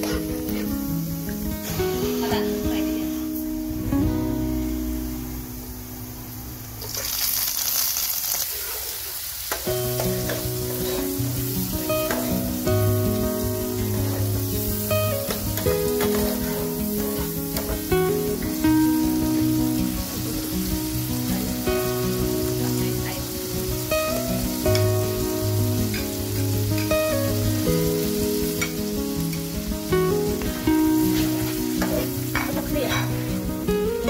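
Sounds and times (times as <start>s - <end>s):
background music with held notes: 0.0s - 6.8s, 9.6s - 34.0s
shrimp sizzling in hot oil: 0.0s - 34.0s.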